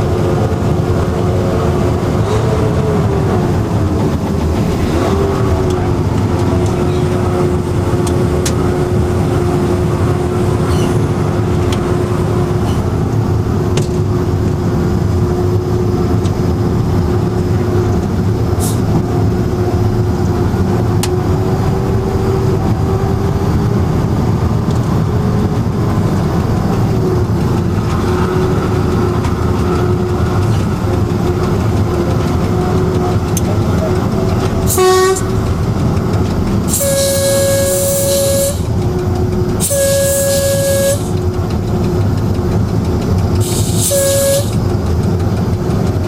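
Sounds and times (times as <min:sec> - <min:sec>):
diesel locomotive idling: 0:00.0 - 0:46.0.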